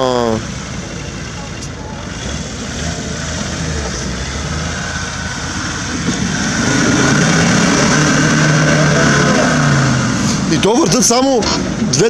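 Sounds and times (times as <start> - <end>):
off-road vehicle engine pulling: 0.0 - 12.0.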